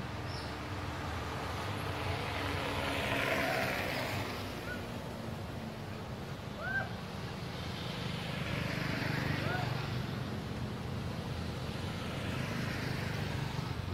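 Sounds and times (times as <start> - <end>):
motor vehicle passing: 0.3 - 5.5, 6.6 - 13.9.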